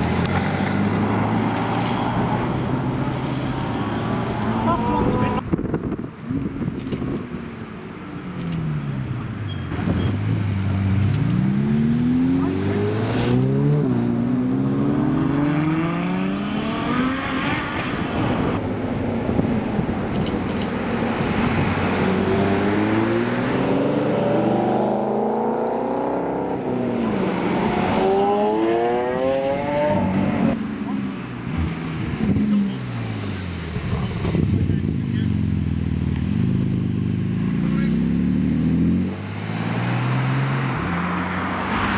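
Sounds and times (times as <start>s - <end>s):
sports car engines revving: 0.0s - 41.9s.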